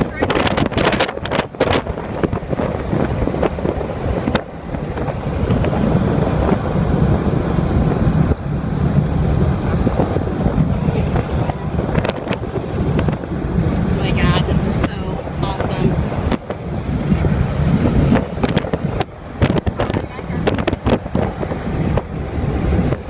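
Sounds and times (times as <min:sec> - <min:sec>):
strong wind on microphone: 0:00.0 - 0:23.0.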